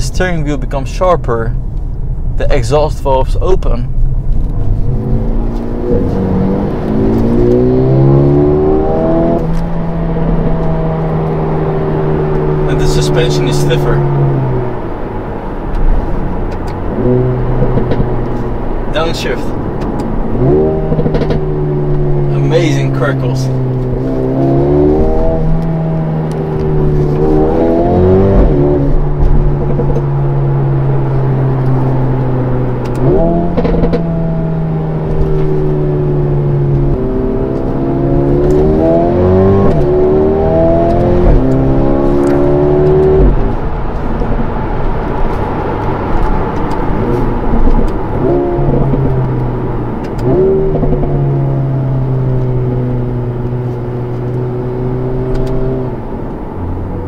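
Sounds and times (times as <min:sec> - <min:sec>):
car engine revving in cabin: 0:02.4 - 0:57.0.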